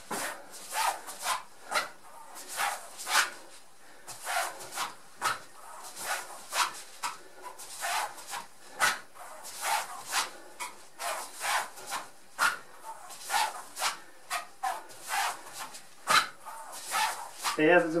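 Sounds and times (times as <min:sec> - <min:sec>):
socked feet sliding on mat: 0:00.0 - 0:17.8.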